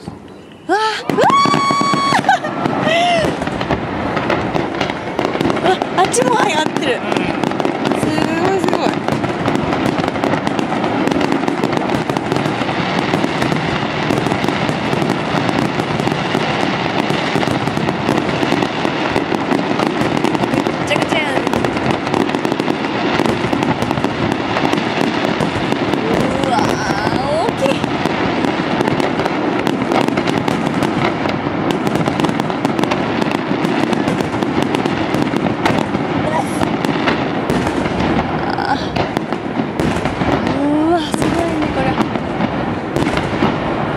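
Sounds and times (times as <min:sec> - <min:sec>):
fireworks bursting and crackling: 0:00.0 - 0:43.9.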